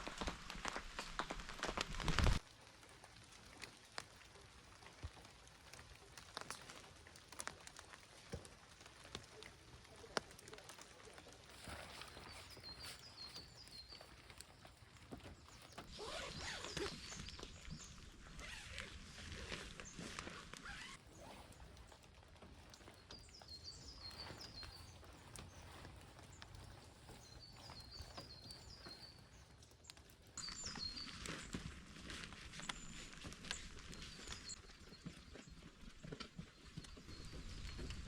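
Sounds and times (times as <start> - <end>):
rain drops tapping: 0.0 - 38.0
rustling: 0.0 - 38.0.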